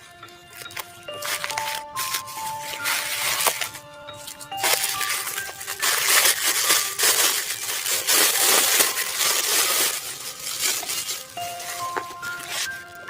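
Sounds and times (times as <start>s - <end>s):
packaging crunching and crinkling: 0.0s - 13.0s.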